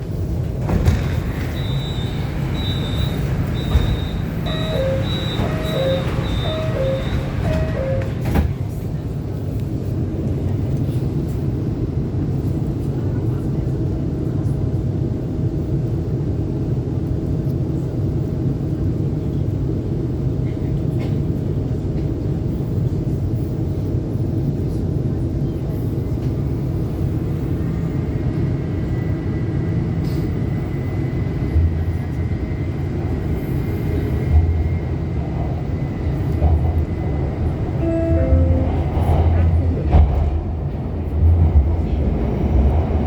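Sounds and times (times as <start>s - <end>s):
train rumbling inside car: 0.0s - 43.0s.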